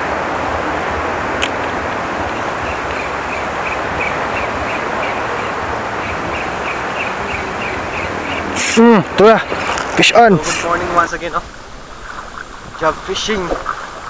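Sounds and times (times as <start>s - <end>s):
seaside noise: 0.0s - 14.0s.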